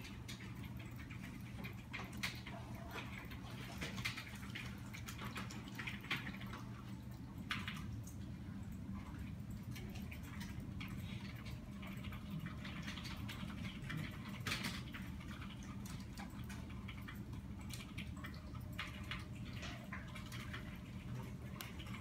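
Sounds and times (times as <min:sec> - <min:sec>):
faint clicks and ticks: 0:00.0 - 0:22.0.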